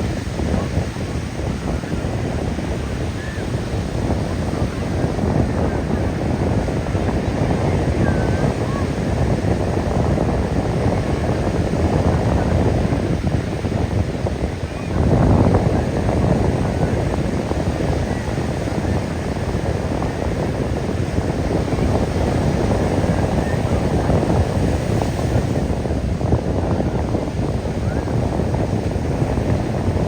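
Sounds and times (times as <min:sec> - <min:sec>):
ocean surf: 0:00.0 - 0:26.0
wind buffeting microphone: 0:00.0 - 0:30.0.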